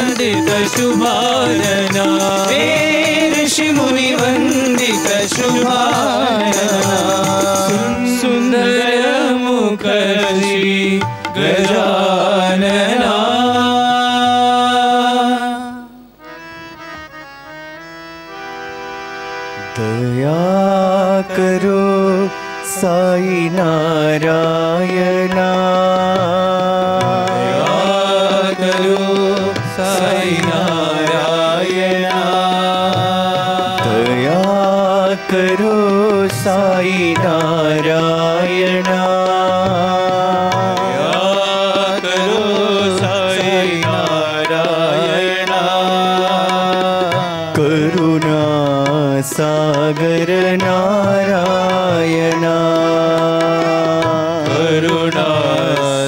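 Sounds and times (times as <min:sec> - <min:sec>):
tabla: 0:00.0 - 0:56.0.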